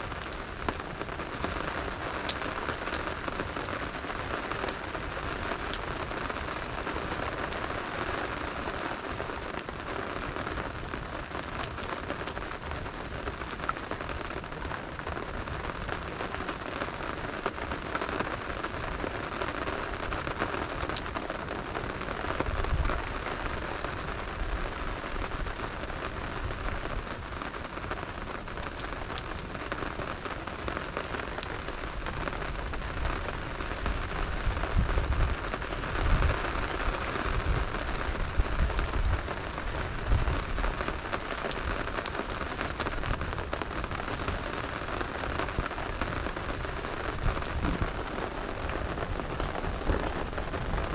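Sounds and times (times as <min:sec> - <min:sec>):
rain pattering: 0:00.0 - 0:50.9.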